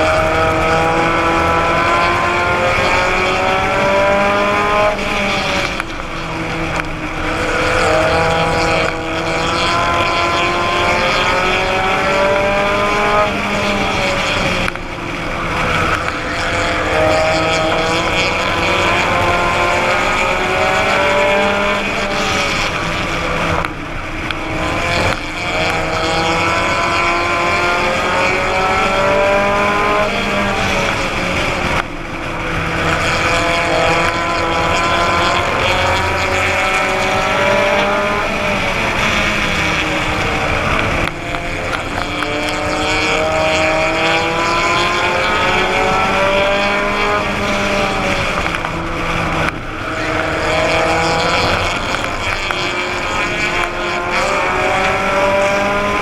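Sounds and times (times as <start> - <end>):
race car engine revving: 0.0 - 56.0
wind and road noise: 0.0 - 56.0.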